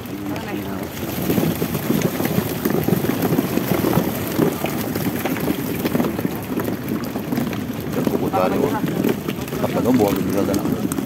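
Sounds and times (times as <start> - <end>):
water splashing and sloshing: 0.0 - 11.0
wind buffeting microphone: 0.0 - 11.0.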